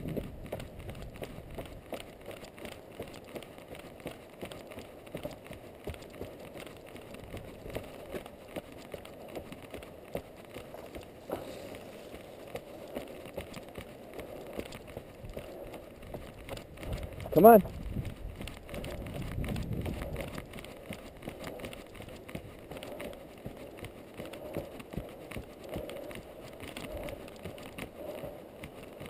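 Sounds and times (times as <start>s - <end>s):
footsteps on dirt trail: 0.0s - 29.0s.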